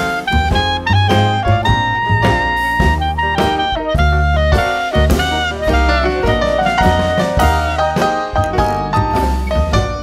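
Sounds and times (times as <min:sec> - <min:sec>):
jazzy piano chords: 0:00.0 - 0:10.0
steady bass line: 0:00.0 - 0:10.0.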